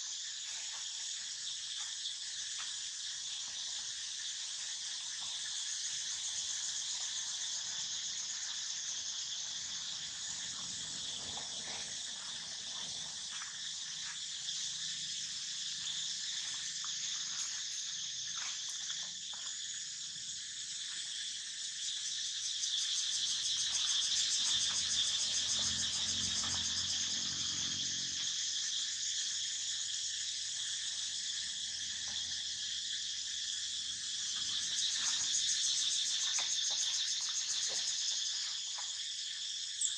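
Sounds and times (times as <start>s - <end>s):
insects chorus hissing: 0.0s - 39.9s.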